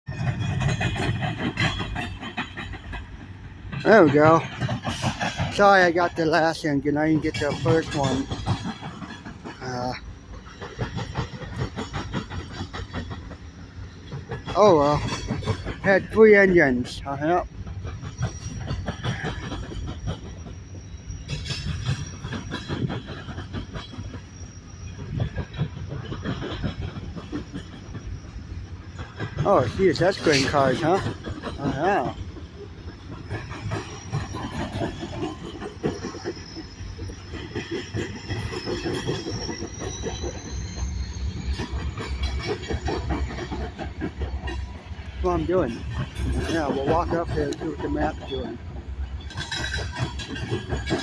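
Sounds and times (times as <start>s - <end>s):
low train rumble: 0.1s - 51.0s
train wheels clacking over rail joints: 0.1s - 51.0s.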